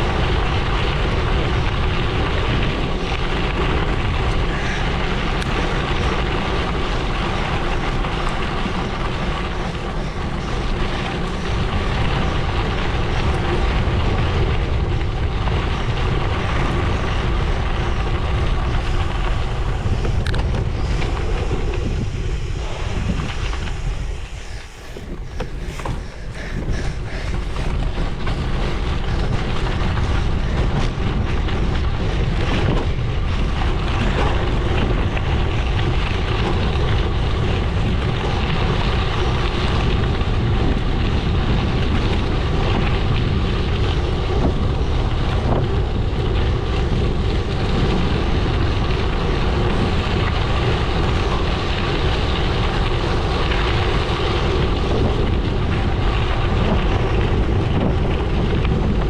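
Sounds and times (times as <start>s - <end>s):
bike tyres rolling on gravel: 0.0s - 59.0s
wind buffeting microphone: 0.0s - 59.0s.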